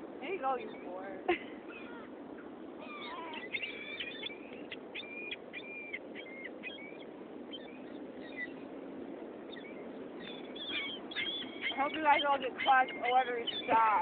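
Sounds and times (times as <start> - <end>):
low background rush: 0.0 - 14.0
seagulls calling: 0.2 - 8.7, 9.4 - 14.0.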